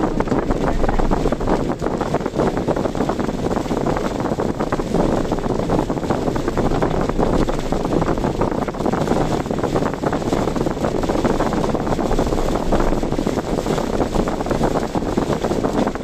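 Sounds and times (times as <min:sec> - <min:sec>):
vehicle road noise: 0:00.0 - 0:15.8
rushing wind: 0:00.0 - 0:16.0.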